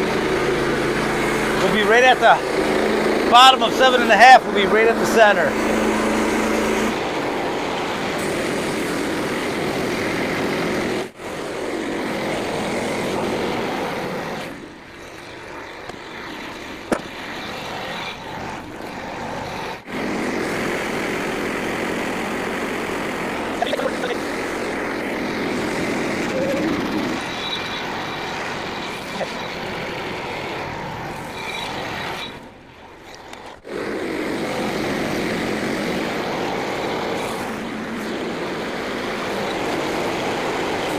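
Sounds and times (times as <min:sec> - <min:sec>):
sawmill engine cutting log: 0:00.0 - 0:40.9.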